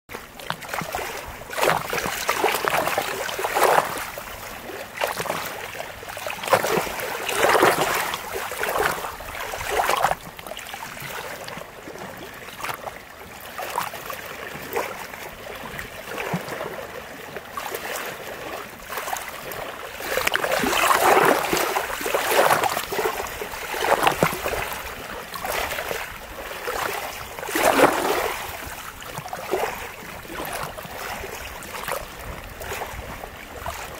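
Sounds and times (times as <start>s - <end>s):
lake waves lapping and splashing: 0.1s - 33.9s.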